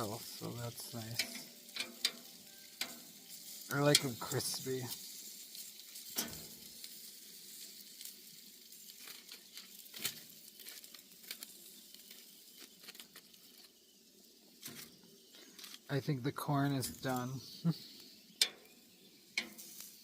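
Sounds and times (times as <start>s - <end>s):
fat popping and crackling: 0.0s - 20.0s
sausages sizzling on a grill: 0.0s - 20.0s.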